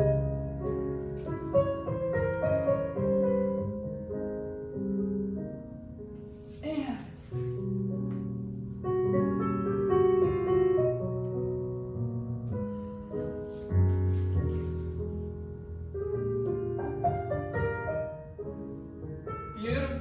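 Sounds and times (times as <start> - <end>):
jazz-style piano accompaniment: 0.0 - 20.0.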